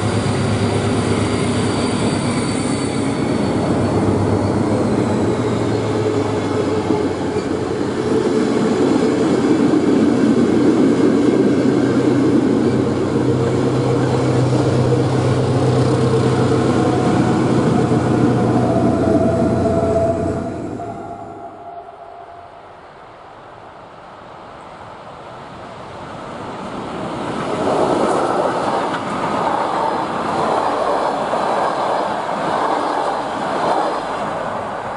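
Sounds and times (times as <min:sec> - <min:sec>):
train wheels rumbling on rails: 0:00.0 - 0:21.8, 0:25.4 - 0:34.9.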